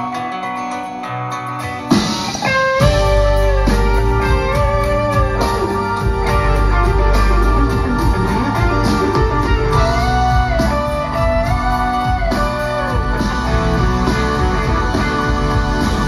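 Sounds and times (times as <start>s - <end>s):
electric guitar lead: 0.0s - 16.0s
live rock band playing: 0.0s - 16.0s.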